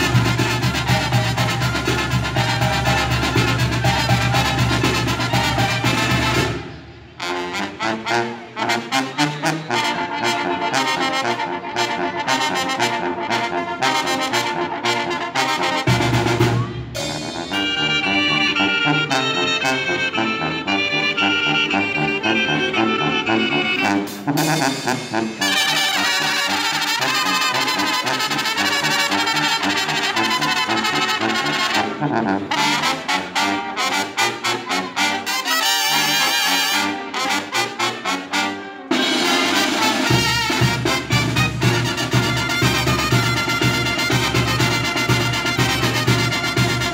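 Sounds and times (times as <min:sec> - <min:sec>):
brass band playing: 0:00.0 - 0:46.9.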